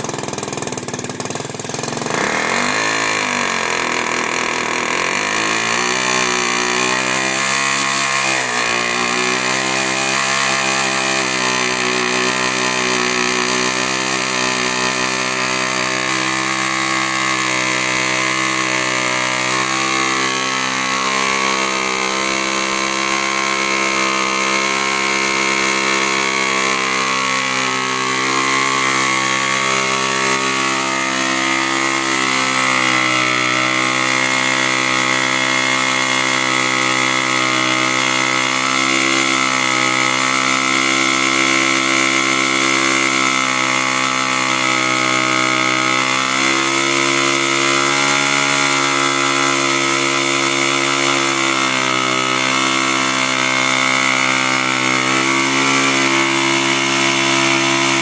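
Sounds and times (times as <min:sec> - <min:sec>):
motorbike engine high revs: 0:00.0 - 0:58.0.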